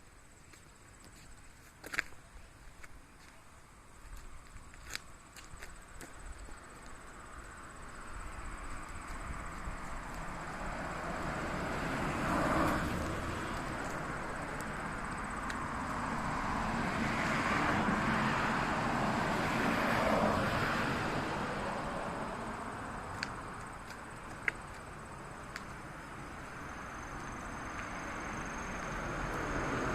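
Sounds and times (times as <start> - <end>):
vehicles passing by: 0.0 - 29.9.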